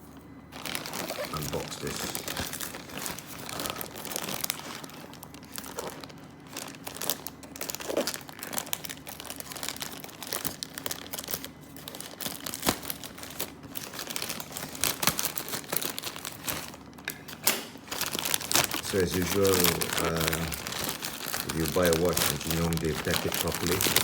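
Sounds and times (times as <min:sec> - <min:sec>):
packaging tearing: 0:00.5 - 0:24.0
plastic wrapping crinkling: 0:00.5 - 0:24.0.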